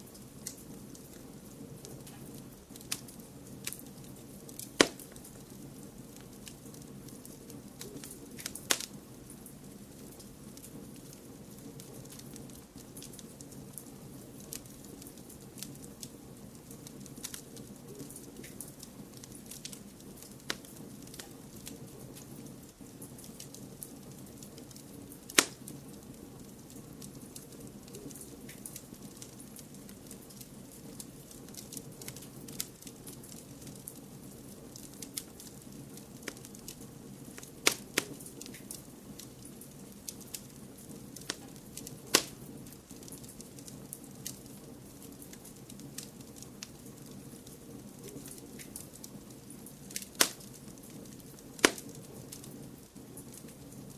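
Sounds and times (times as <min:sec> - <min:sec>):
loud pops of fire: 0:00.0 - 0:53.9
low hiss: 0:00.0 - 0:53.9
wood fire crackling: 0:00.0 - 0:53.9.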